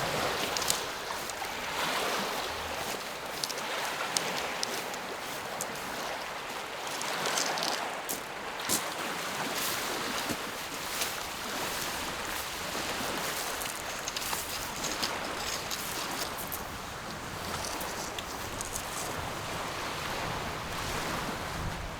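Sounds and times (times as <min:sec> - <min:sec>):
waves lapping at shore: 0:00.0 - 0:21.9.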